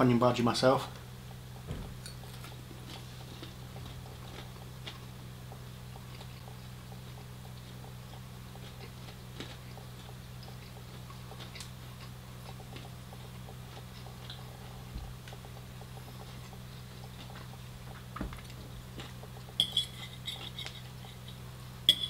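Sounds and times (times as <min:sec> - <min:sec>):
low electrical hum: 0:00.0 - 0:22.0
crunchy chewing: 0:01.3 - 0:21.6.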